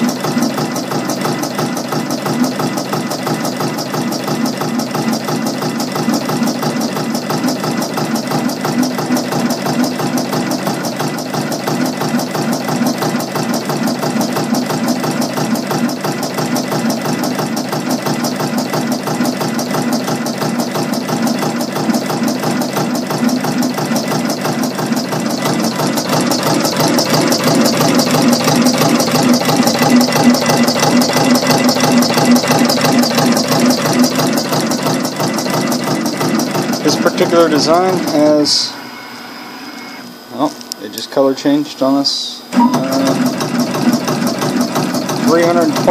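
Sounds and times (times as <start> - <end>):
machine mechanical clatter: 0.0 - 38.7, 42.7 - 45.9.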